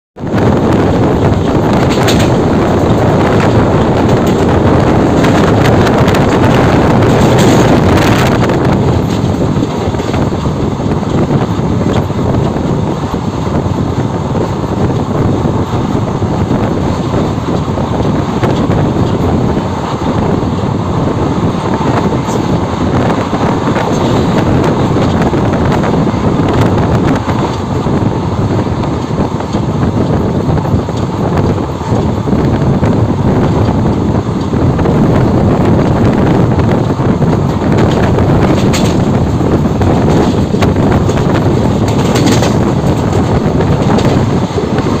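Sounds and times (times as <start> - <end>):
train wheels rumbling on rails: 0.2 - 45.0
wind buffeting microphone: 0.2 - 45.0.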